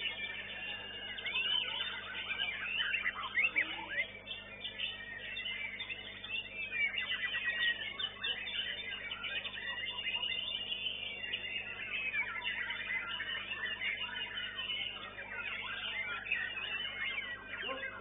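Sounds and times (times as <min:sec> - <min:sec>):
other songbirds singing: 0:00.0 - 0:18.0
songbird rapid whistles and trills: 0:00.0 - 0:18.0.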